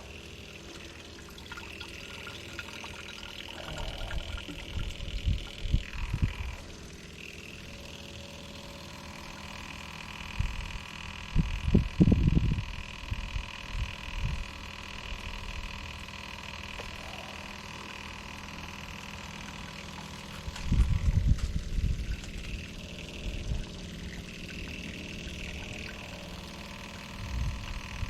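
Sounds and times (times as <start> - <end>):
electric fuel pump whining: 0.0 - 28.0.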